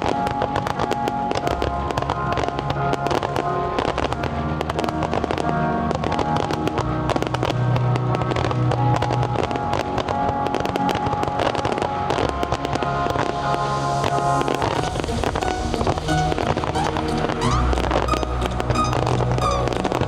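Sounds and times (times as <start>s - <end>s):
fireworks bangs and crackles: 0.0s - 20.0s
orchestral music: 0.0s - 20.0s.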